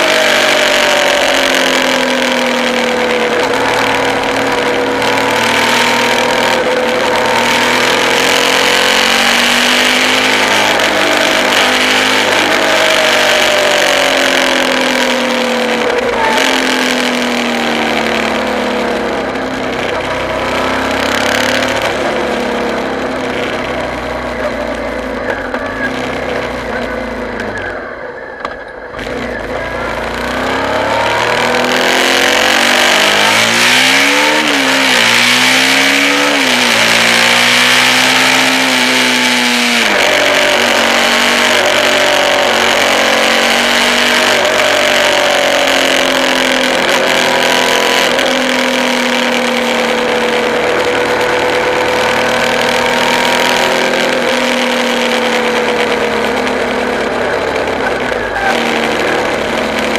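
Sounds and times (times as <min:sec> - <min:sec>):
vehicle engine shifting gears: 0:00.0 - 0:59.9
wind and road noise: 0:00.0 - 0:59.9.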